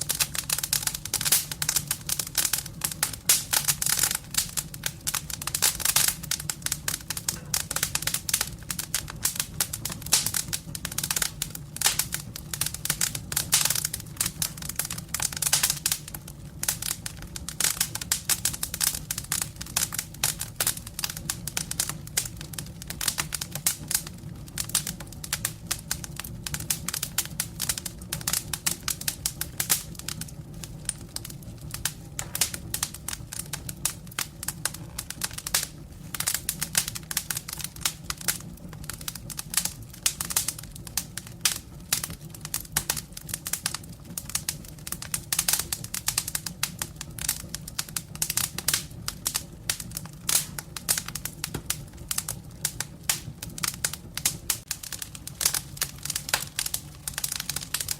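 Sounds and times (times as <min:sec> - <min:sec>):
firewood crackling and popping: 0:00.0 - 0:57.9
low rumble of flames: 0:00.0 - 0:57.9.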